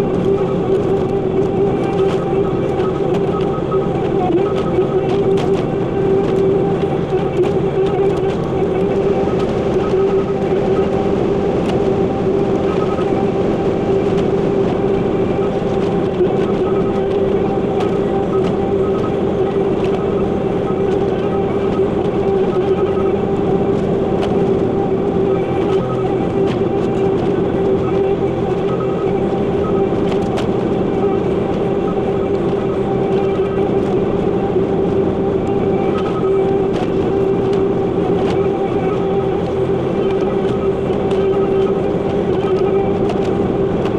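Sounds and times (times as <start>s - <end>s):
diesel engine and hydraulics running: 0.0s - 43.9s
steady whine: 0.0s - 43.9s.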